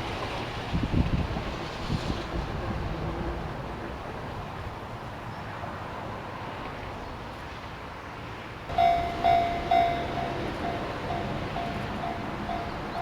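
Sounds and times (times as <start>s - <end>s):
train rumbling on tracks: 0.0s - 6.8s, 8.7s - 13.0s.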